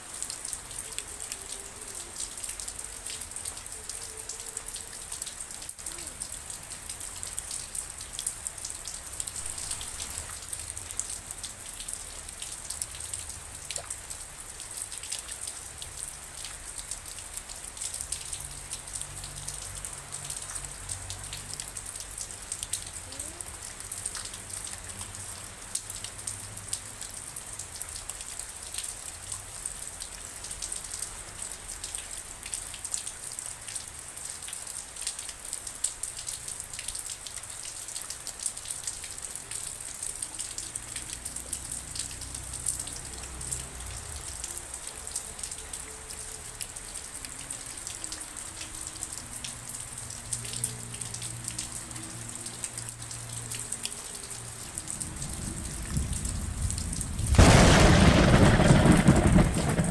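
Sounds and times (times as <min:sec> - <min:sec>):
rain drops ticking on hard surface: 0:00.0 - 0:59.9.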